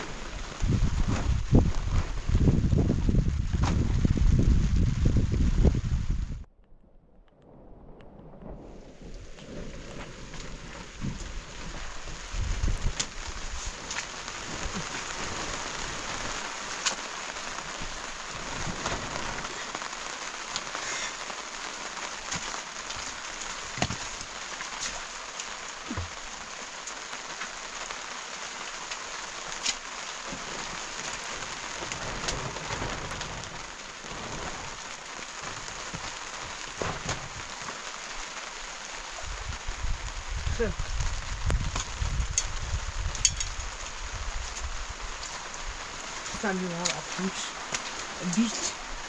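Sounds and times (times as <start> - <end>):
rain falling: 0.0 - 6.5, 7.4 - 49.0.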